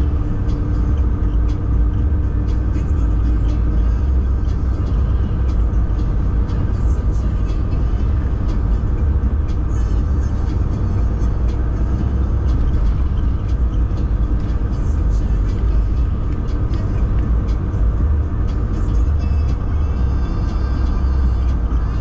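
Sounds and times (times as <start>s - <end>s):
road noise: 0.0s - 22.0s
truck diesel engine rumble: 0.0s - 22.0s.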